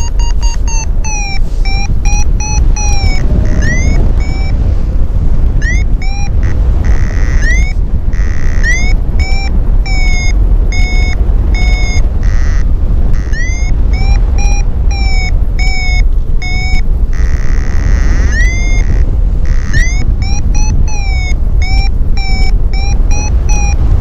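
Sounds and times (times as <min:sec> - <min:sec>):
variometer beeping chirps: 0:00.0 - 0:04.8, 0:05.4 - 0:24.0
wind rushing on microphone: 0:00.0 - 0:24.0.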